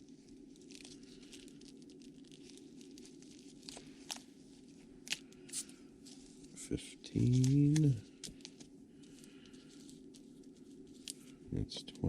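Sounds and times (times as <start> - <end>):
plastic wrappers crinkling: 0.0 - 11.5.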